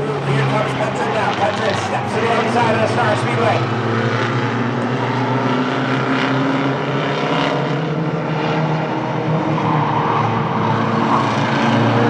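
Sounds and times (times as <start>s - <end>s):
race truck engines roaring: 0.0s - 12.0s.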